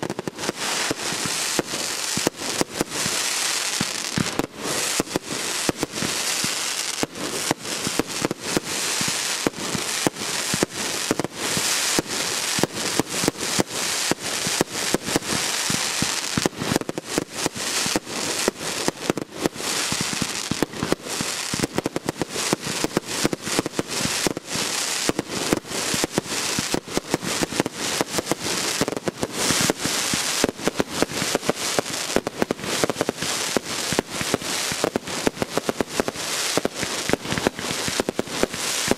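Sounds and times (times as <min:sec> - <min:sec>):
fireworks crackling pops: 0:00.0 - 0:38.9.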